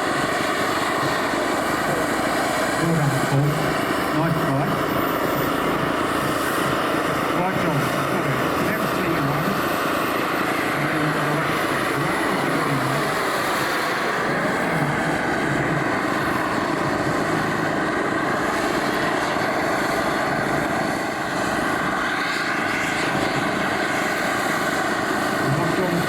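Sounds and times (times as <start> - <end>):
model aircraft engine running: 0.0 - 26.0.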